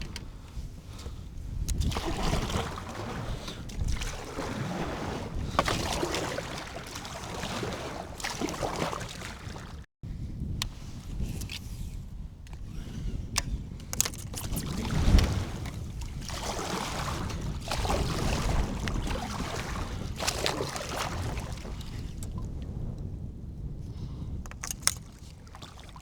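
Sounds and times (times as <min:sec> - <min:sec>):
water splashing against kayak hull: 0:00.0 - 0:09.9, 0:12.5 - 0:23.0, 0:24.3 - 0:26.0
wind rumbling on microphone: 0:00.0 - 0:26.0.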